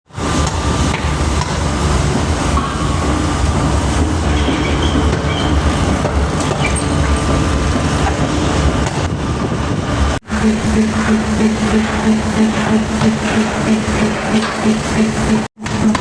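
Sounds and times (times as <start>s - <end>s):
heavy machinery rumbling and rattling: 0.0s - 16.0s.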